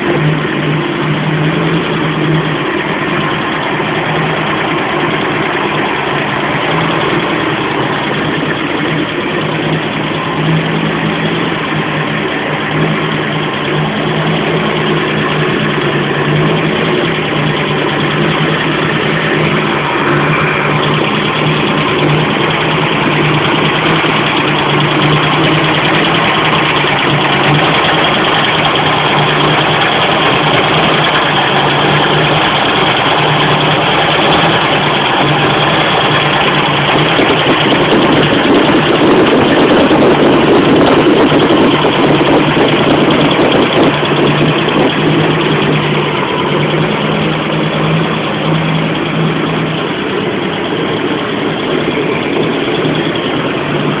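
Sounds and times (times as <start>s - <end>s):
engine rumbling at idle: 0.0s - 54.0s.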